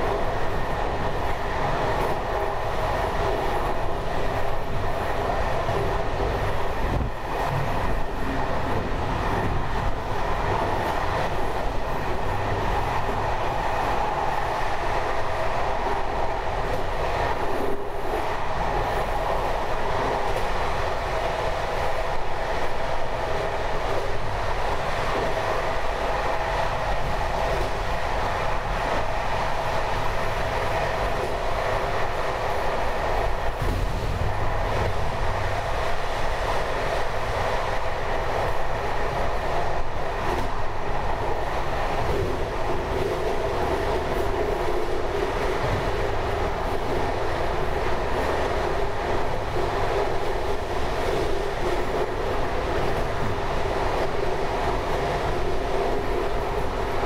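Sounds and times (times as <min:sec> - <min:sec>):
train wheels rolling on rail: 0:00.0 - 0:57.0.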